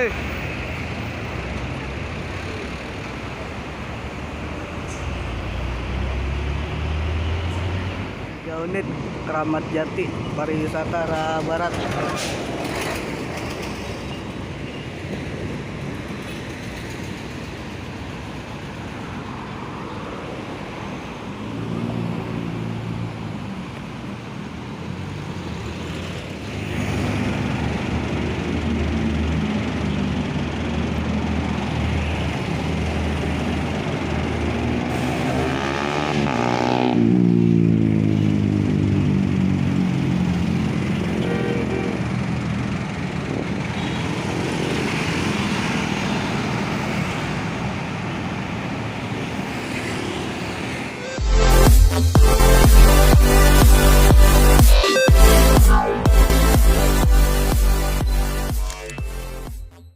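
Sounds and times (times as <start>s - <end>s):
heavy diesel vehicles passing: 0.0s - 59.8s.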